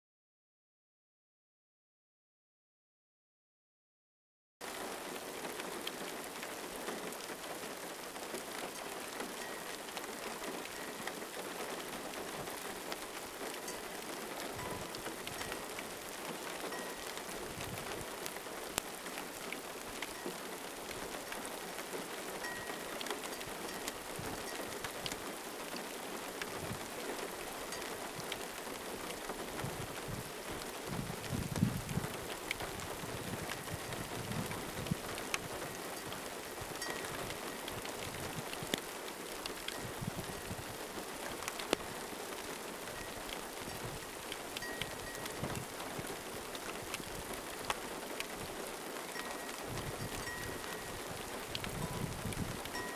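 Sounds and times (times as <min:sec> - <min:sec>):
steady rain falling: 0:04.6 - 0:52.9.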